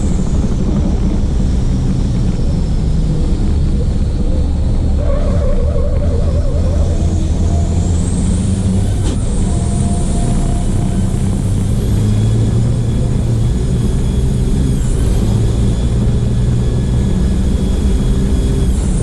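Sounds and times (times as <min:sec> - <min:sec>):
diesel truck engine droning: 0:00.0 - 0:19.0
faint high whine: 0:00.0 - 0:19.0.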